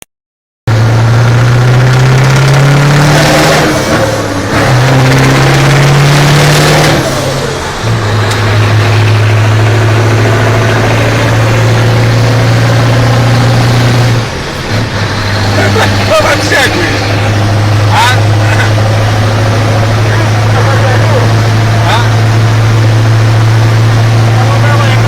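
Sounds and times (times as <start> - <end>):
heavy truck engine drone: 0.7 - 25.0.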